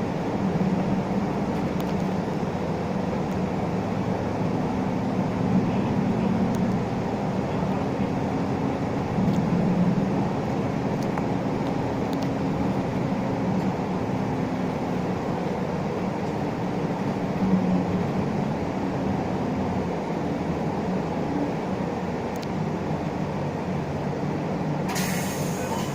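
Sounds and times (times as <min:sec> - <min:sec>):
bus engine drone: 0:00.0 - 0:25.9
road noise: 0:00.0 - 0:25.9.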